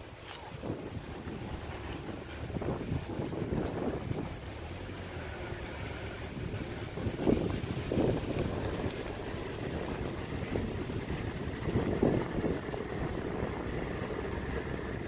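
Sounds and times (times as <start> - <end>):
tractor engine running: 0.9 - 15.0.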